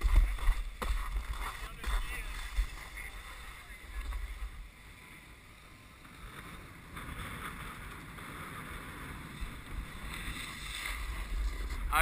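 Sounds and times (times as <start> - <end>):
snowboard sliding over snow: 0.0 - 12.0
wind rumbling on microphone: 0.0 - 12.0.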